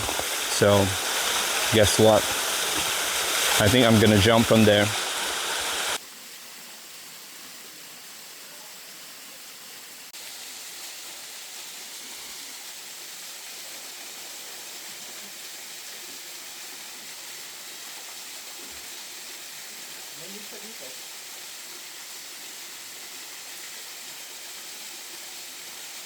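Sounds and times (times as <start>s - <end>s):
waterfall rushing into pool: 0.0s - 26.0s.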